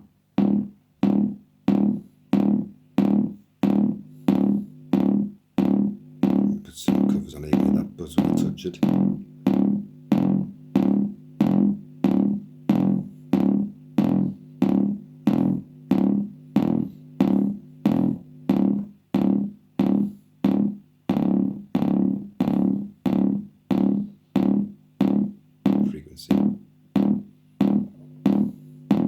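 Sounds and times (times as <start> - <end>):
electronic kick drum thumps: 0.0 - 29.0.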